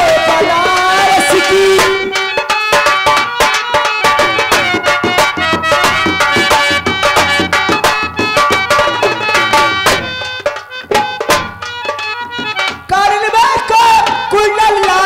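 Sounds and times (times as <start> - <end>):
held melody notes: 0.0 - 15.0
rapid drum strokes: 0.0 - 15.0.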